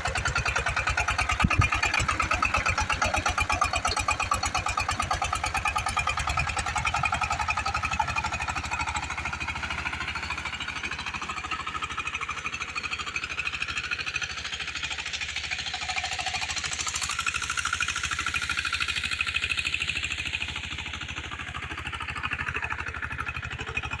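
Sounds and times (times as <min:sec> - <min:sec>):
diesel engine chugging: 0:00.0 - 0:24.0.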